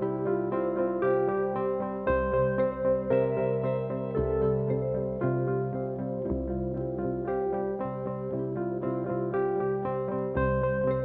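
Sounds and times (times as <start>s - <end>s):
ambient keyboard melody: 0.0s - 11.0s
steady bass line: 0.0s - 11.0s.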